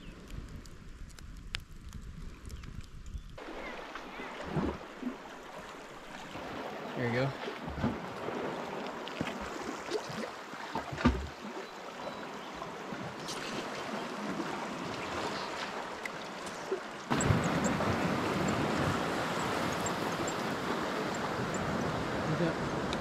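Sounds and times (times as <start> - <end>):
light wind: 0.0 - 23.0
sea water lapping on rocks: 3.4 - 23.0
water rushing over rocks: 3.4 - 23.0.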